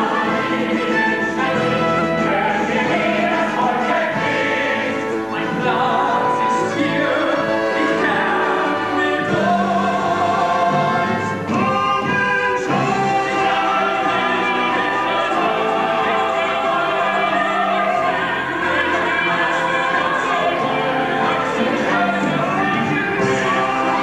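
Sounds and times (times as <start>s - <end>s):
cast singing with choir: 0.0s - 24.0s
orchestra playing: 0.0s - 24.0s.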